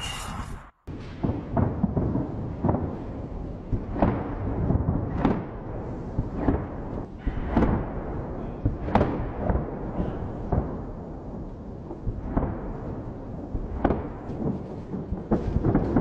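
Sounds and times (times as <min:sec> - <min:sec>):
firework shells booming: 0:00.9 - 0:16.0.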